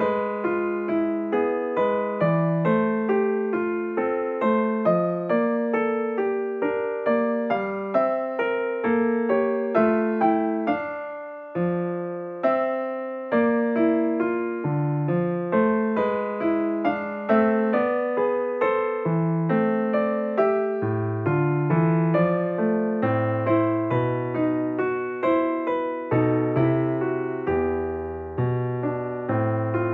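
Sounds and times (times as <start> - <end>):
slow piano music: 0.0 - 29.9.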